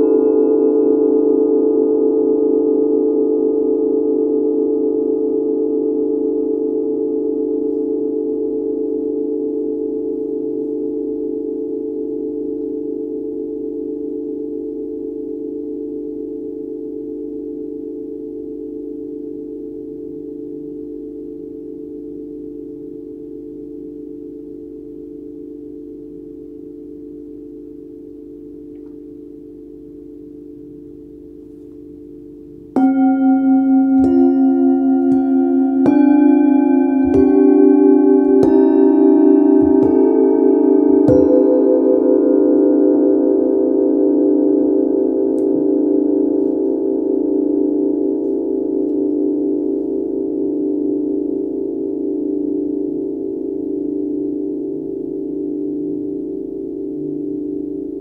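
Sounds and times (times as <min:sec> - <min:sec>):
singing bowls ringing: 0:00.0 - 0:58.0.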